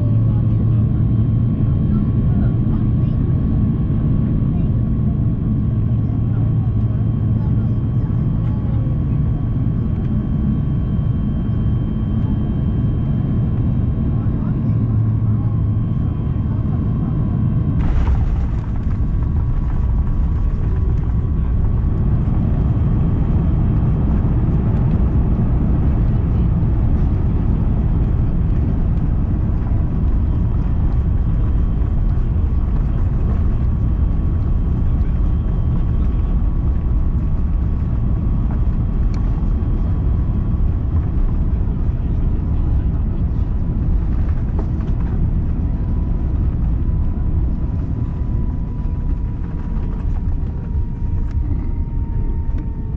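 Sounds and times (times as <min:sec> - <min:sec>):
airplane engines rumbling in cabin: 0:00.0 - 0:52.9.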